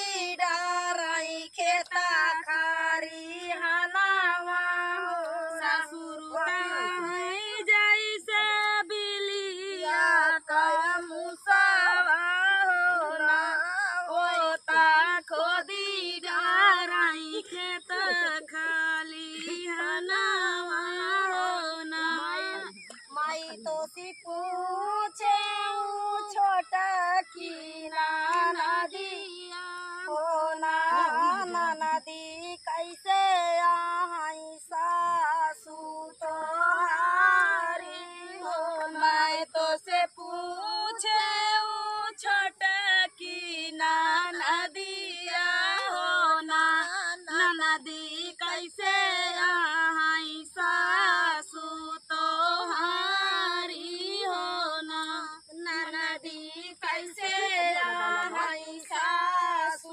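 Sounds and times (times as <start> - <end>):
woman singing folk song: 0.0 - 59.9.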